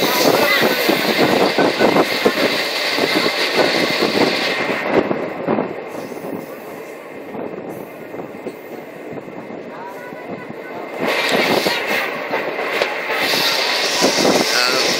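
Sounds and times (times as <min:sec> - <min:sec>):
train rumbling: 0:00.0 - 0:14.9.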